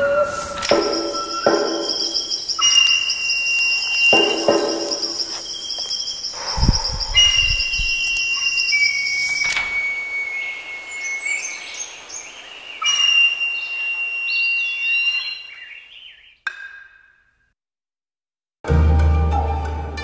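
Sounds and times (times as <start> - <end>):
birds whistling: 0.0 - 16.4.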